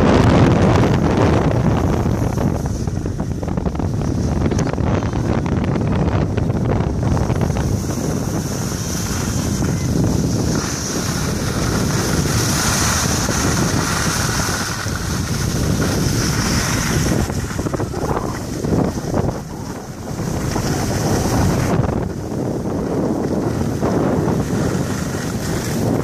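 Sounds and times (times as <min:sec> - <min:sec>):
wind buffeting microphone: 0:00.0 - 0:26.0
skis sliding on packed snow: 0:00.1 - 0:04.4, 0:07.0 - 0:26.0.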